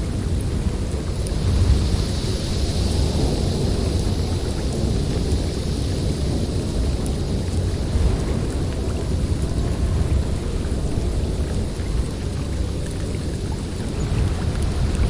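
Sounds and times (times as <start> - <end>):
snowstorm wind blowing: 0.0 - 15.0.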